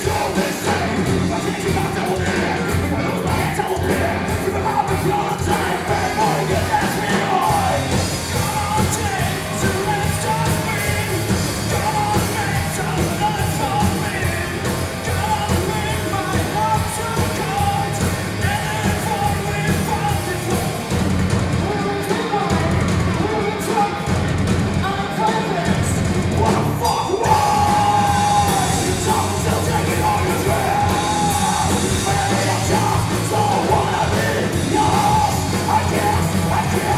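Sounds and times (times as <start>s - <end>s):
person singing and shouting: 0.0s - 20.9s, 21.6s - 24.1s, 24.8s - 36.9s
bass guitar: 0.0s - 36.9s
drums: 0.0s - 36.9s
electric guitar: 0.0s - 36.9s.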